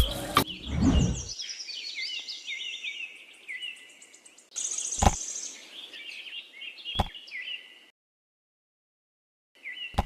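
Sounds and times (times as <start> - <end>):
small birds chirping: 0.2 - 7.9, 9.6 - 10.0.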